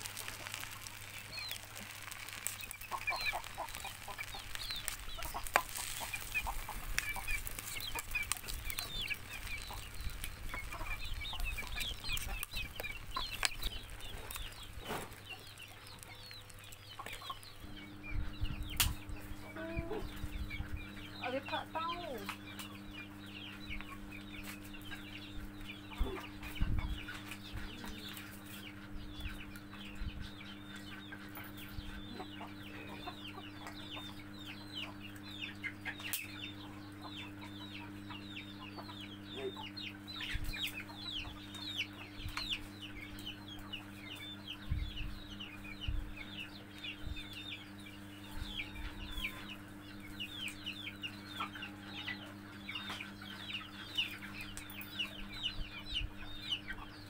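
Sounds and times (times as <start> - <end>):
chickens clucking and chirping: 0.0 - 57.0
steady low hum: 0.0 - 57.0.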